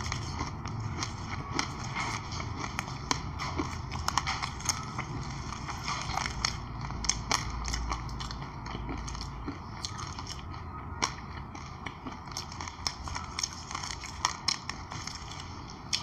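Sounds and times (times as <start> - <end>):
close chewing crunches: 0.0 - 16.0.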